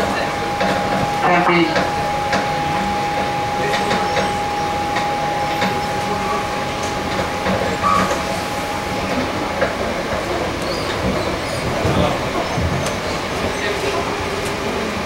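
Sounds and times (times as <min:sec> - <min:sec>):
high train whine: 0:00.0 - 0:15.0
train wheels rumbling: 0:00.0 - 0:15.0.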